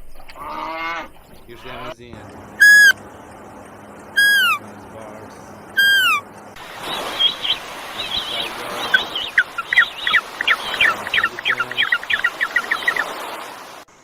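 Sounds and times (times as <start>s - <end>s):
bird warbling and chirping: 0.0s - 13.8s.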